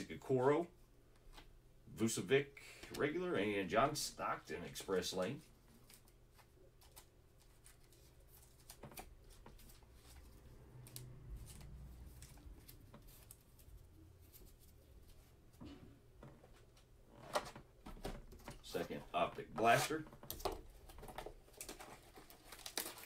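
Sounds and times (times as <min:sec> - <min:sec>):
plastic sleeves rustling: 0:04.1 - 0:23.0.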